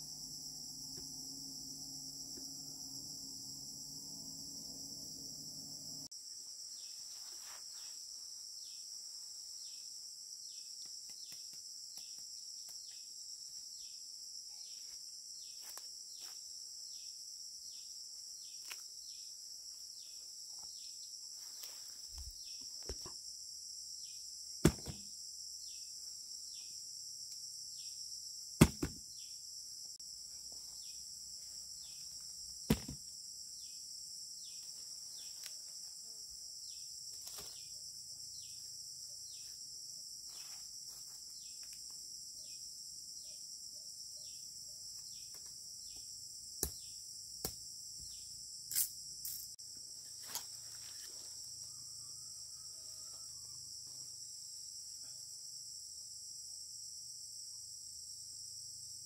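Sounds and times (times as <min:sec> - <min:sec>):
insect drone with chirps: 0:00.0 - 0:59.0.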